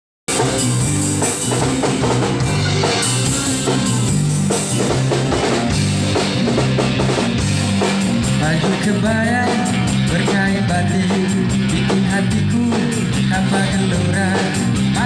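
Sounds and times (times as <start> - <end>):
bass line: 0.3 - 15.0
drum kit steady beat: 0.3 - 15.0
guitar: 0.3 - 15.0.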